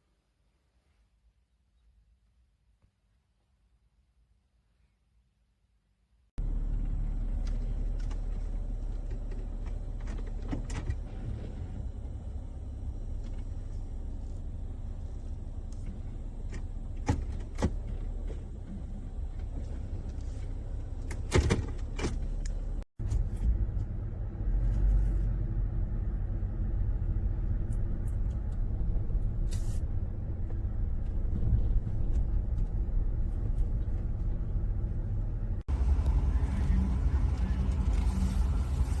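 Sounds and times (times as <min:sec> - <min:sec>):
car cabin rumble: 0:06.4 - 0:39.0.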